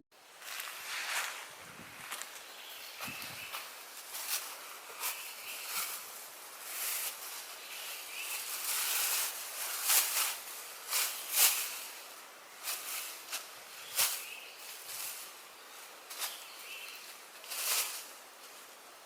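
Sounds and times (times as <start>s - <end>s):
rustling and crinkling handling: 0.4s - 19.0s.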